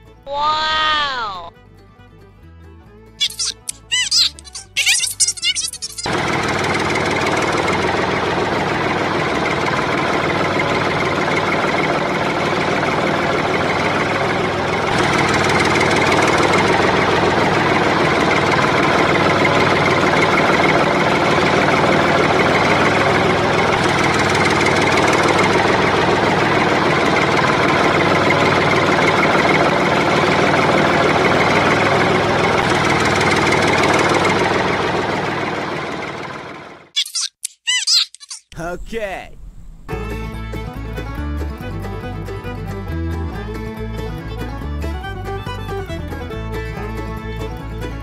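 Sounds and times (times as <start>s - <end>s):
engine running: 1.3s - 37.0s, 38.8s - 48.0s.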